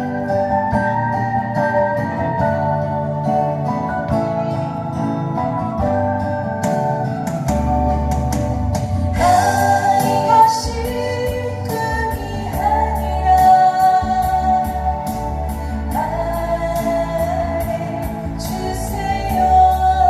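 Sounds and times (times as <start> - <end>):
guitar with steady beat: 0.0 - 20.0.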